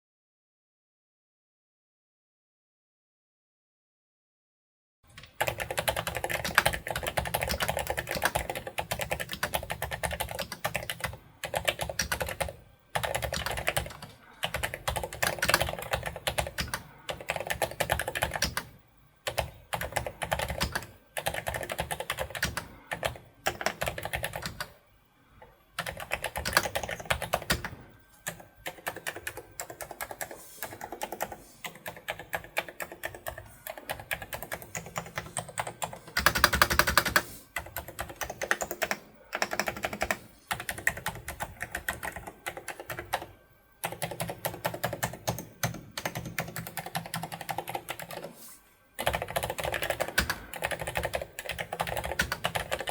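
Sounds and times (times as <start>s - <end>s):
mechanical keyboard typing: 5.2s - 18.7s, 19.3s - 24.7s, 25.8s - 48.4s, 49.0s - 52.9s.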